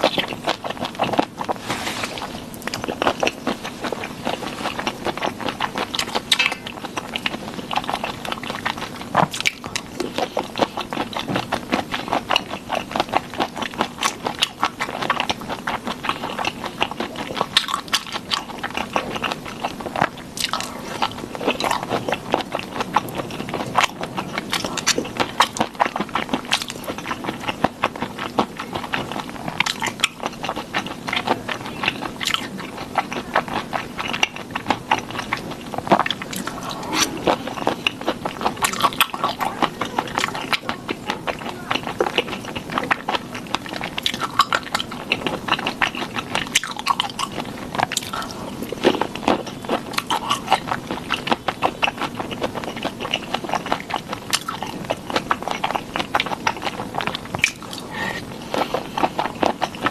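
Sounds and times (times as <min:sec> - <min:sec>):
wet chewing and lip smacks: 0:00.0 - 0:59.9.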